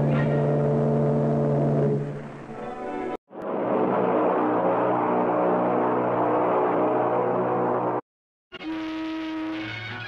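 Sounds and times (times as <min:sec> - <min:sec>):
ship's horn blast: 0:00.0 - 0:10.0.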